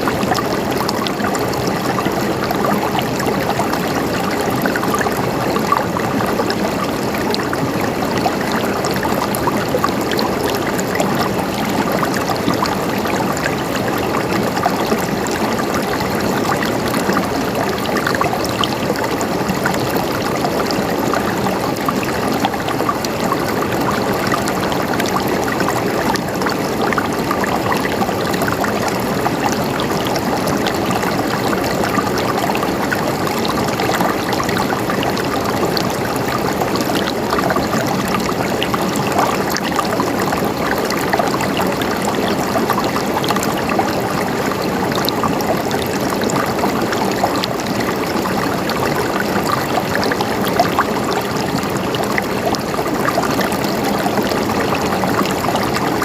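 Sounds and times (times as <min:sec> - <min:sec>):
running water gurgling: 0:00.0 - 0:56.0.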